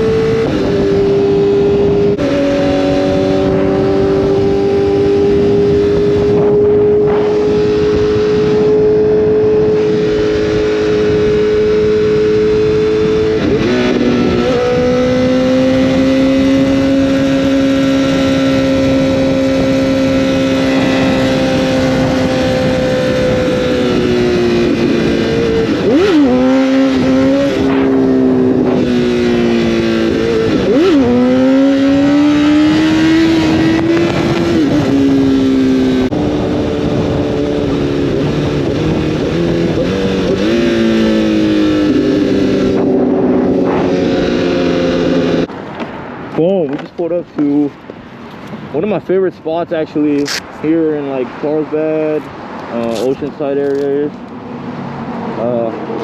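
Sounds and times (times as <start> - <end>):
motorcycle engine cruising: 0.0 - 56.0
wind rush: 0.0 - 56.0.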